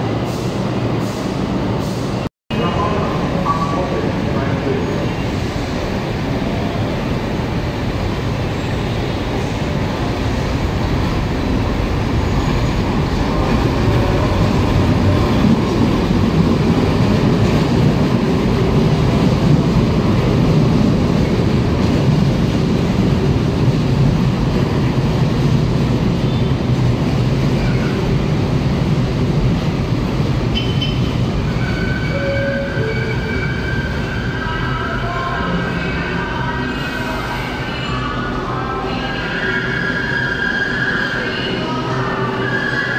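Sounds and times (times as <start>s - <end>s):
light rail train rumbling: 0.0s - 42.9s.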